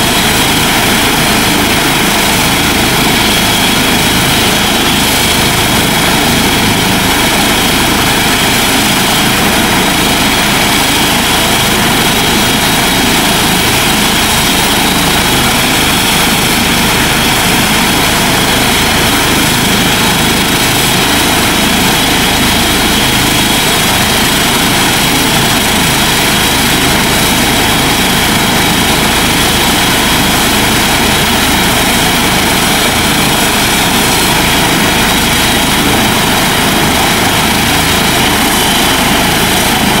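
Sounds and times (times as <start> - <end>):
helicopter rotor and turbine noise: 0.0 - 40.0.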